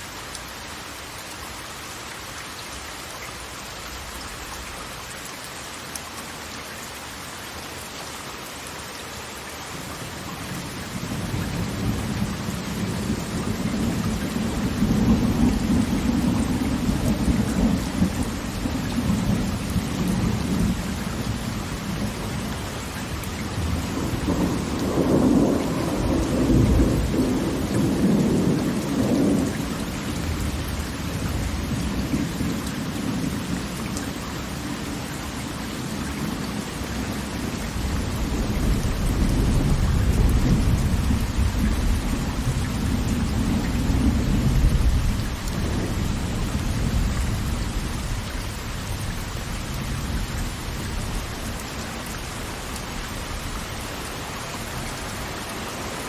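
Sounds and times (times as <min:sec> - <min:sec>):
roar of heavy falling water: 0:00.0 - 0:56.0.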